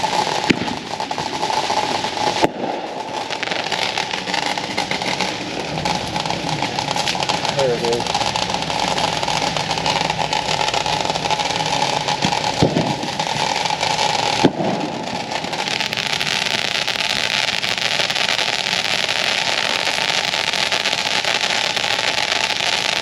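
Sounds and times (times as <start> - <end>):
firework hissing and crackling: 0.0 - 23.0
firework pops: 0.0 - 23.0.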